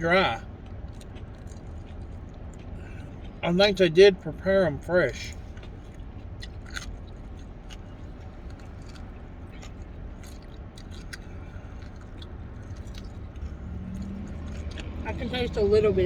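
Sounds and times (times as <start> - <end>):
crunching and chewing food: 0.0 - 16.0
low steady rumble: 0.0 - 16.0.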